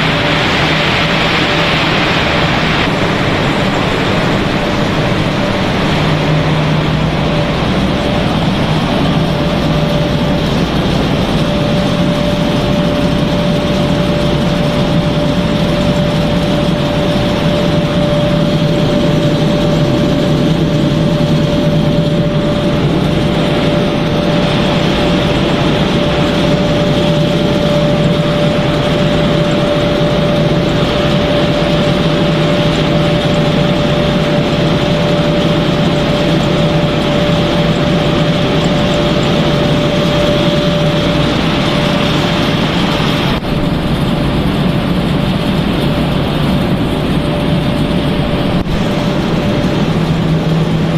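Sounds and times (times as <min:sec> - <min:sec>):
factory machinery hum: 0:00.0 - 0:50.9
mid-pitched machine whine: 0:00.0 - 0:50.9.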